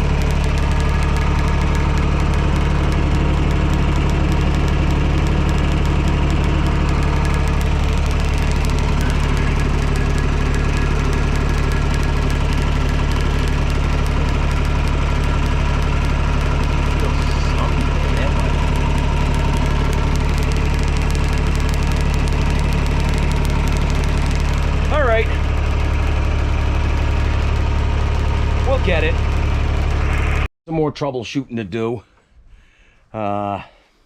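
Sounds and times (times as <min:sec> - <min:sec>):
tractor diesel engine idling: 0:00.0 - 0:30.5.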